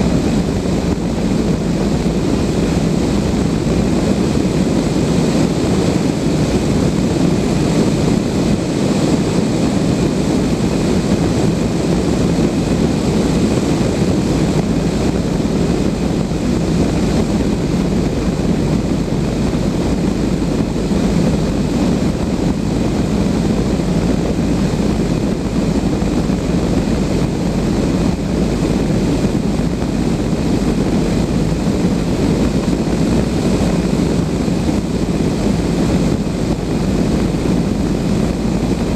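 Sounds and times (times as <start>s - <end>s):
wind noise in glider cockpit: 0.0s - 38.9s.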